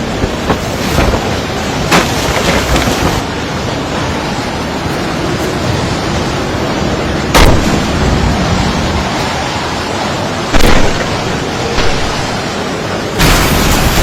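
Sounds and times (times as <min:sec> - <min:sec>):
strong wind rushing: 0:00.0 - 0:14.0
wind gusts buffeting microphone: 0:00.0 - 0:14.0.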